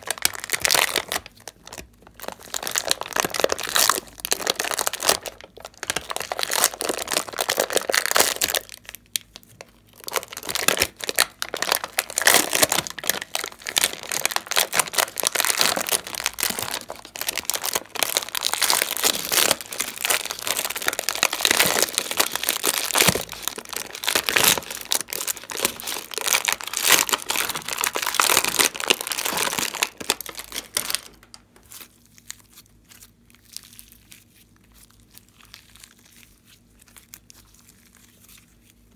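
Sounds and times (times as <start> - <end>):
slime squishing and crackling: 0.0 - 38.9.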